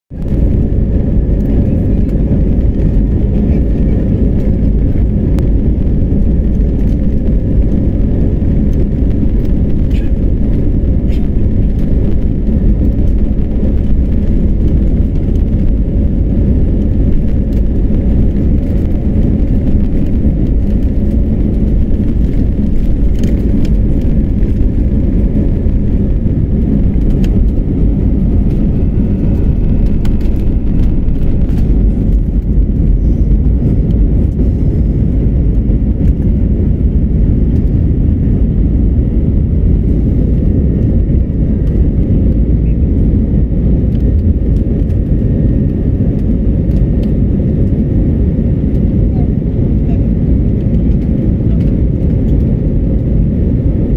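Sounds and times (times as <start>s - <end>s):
jet engine roar: 0.1s - 53.9s.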